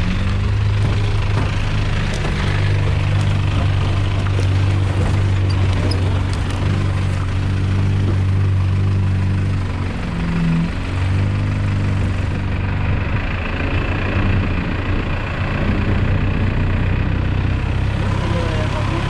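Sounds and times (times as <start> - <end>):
vehicle engine running at low revs: 0.0 - 19.0.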